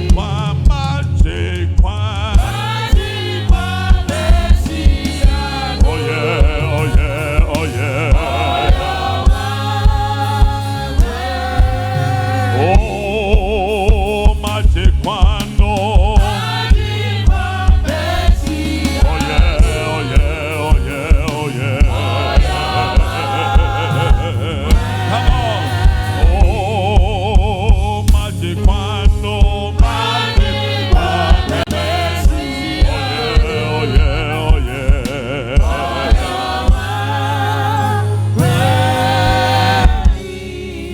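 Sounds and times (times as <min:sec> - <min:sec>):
band with heavy bass drum: 0:00.0 - 0:40.9
voices singing with vibrato: 0:00.0 - 0:40.9.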